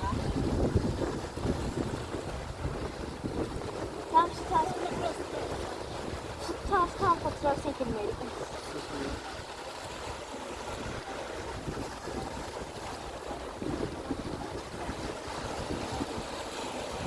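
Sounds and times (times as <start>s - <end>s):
sea washing: 0.0s - 17.0s
wind buffeting microphone: 0.0s - 17.0s.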